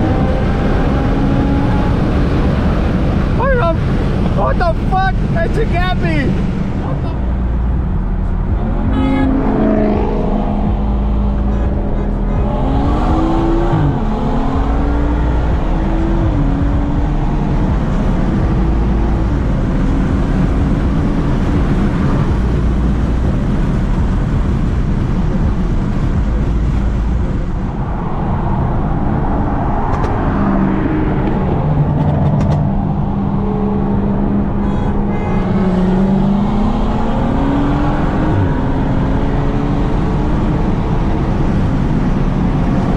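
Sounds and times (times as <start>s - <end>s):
car engine accelerating: 0.0s - 42.9s
road rumble: 0.0s - 42.9s.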